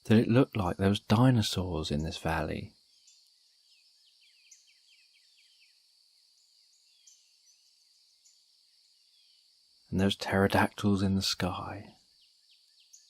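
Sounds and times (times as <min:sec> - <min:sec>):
bird chirping: 0:00.0 - 0:13.0
high insect drone: 0:00.1 - 0:13.0.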